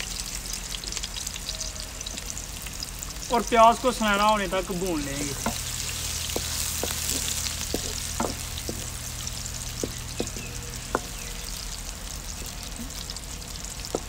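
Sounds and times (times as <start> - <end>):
onions sizzling in hot fat: 0.0 - 14.0.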